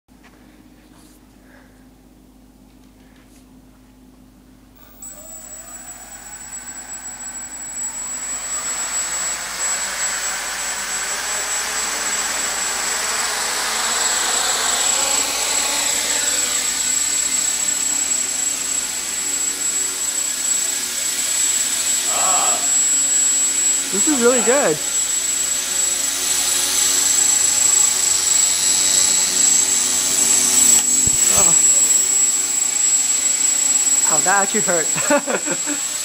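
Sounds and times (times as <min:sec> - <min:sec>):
quadcopter propellers whirring: 0:04.8 - 0:36.0.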